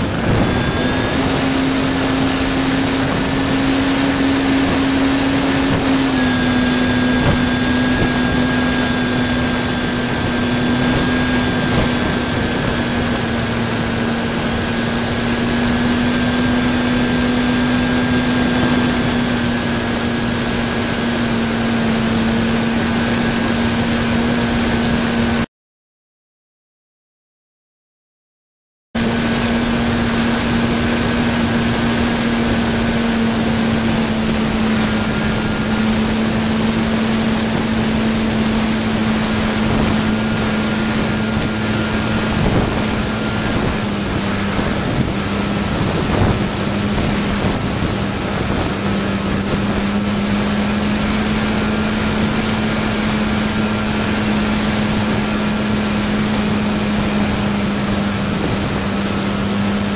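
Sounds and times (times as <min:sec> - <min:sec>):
airflow noise over microphone: 0:00.0 - 0:25.5, 0:29.0 - 0:59.9
model plane motor and propeller: 0:00.0 - 0:25.5, 0:29.0 - 0:59.9.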